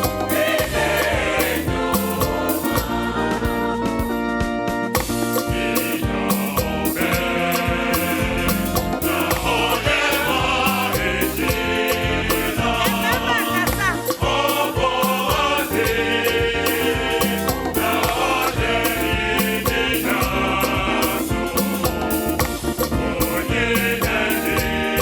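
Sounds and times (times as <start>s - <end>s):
gospel choir singing: 0.0s - 4.2s, 5.0s - 25.0s
band accompaniment: 0.0s - 25.0s
percussion beat: 0.0s - 25.0s.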